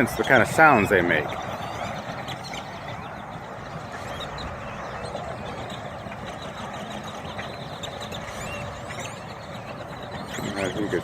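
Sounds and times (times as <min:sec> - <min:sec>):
flock of birds squeaky calls: 0:00.0 - 0:11.0.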